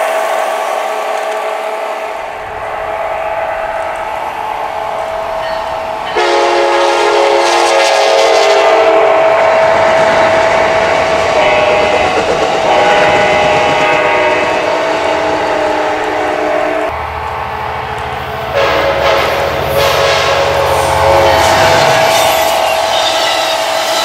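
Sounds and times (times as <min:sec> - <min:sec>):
train horn blasts: 0:00.0 - 0:02.3, 0:05.4 - 0:16.9, 0:18.5 - 0:24.0
trains rolling on track: 0:00.0 - 0:24.0.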